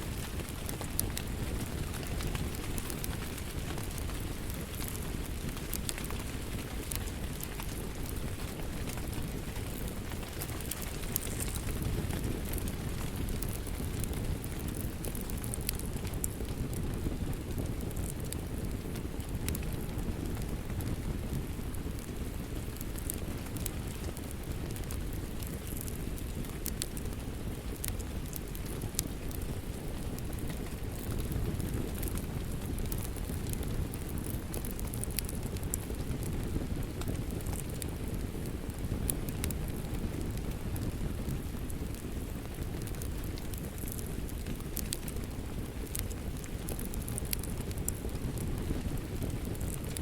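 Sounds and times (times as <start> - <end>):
steady rain: 0.0 - 50.0
wood fire crackling and popping: 0.0 - 50.0.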